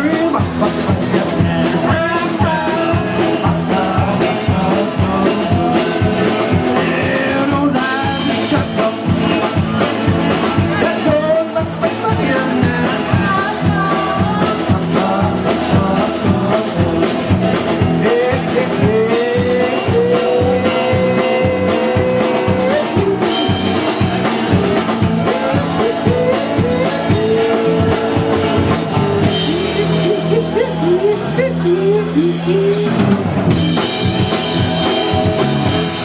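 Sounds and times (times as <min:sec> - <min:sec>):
live country band playing: 0:00.0 - 0:36.0.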